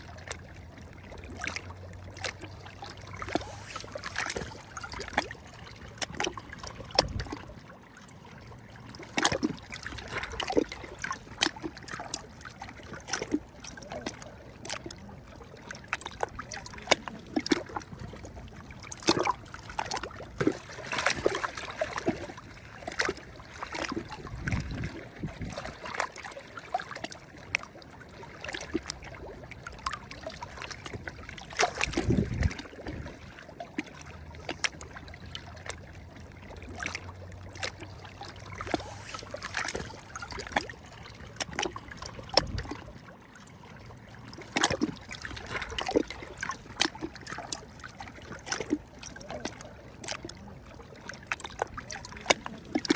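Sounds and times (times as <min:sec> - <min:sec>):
small waves lapping and splashing: 0:00.0 - 0:52.9.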